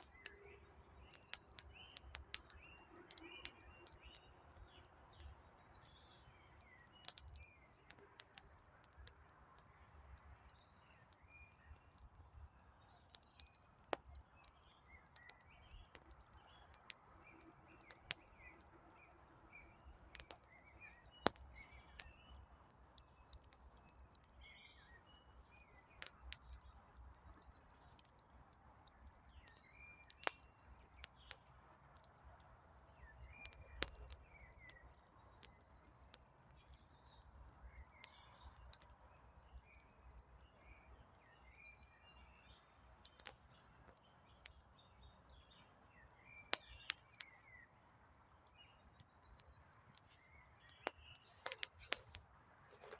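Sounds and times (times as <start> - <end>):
campfire crackling and popping: 0.0 - 52.9
small birds chirping: 0.0 - 52.9.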